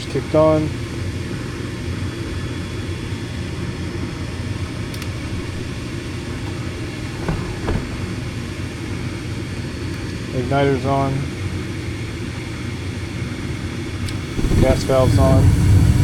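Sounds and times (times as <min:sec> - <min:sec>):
furnace motor running: 0:00.0 - 0:16.0.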